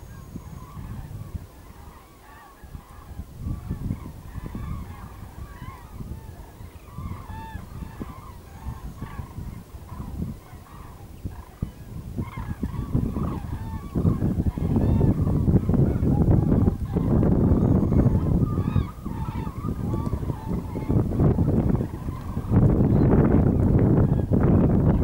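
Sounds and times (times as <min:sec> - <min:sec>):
cranes trumpeting calls: 0:00.0 - 0:24.4.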